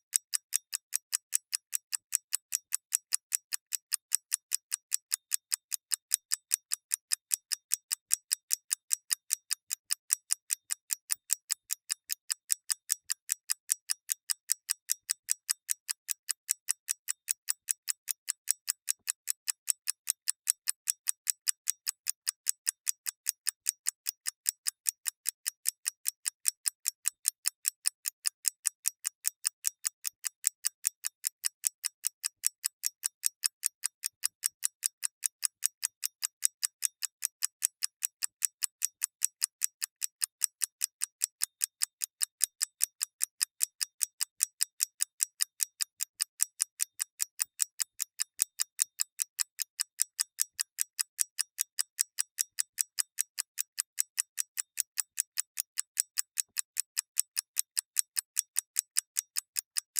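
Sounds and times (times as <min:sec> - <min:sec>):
mechanical clock ticking: 0:00.1 - 0:59.9.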